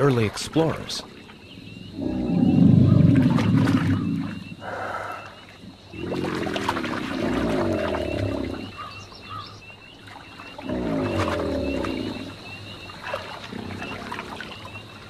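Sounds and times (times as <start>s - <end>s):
alligator bellowing: 0.6s - 9.0s, 10.5s - 14.5s.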